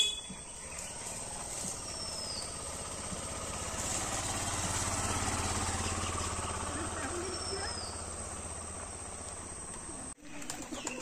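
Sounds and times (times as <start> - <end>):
motorcycle engine running slowly: 0.0 - 11.0.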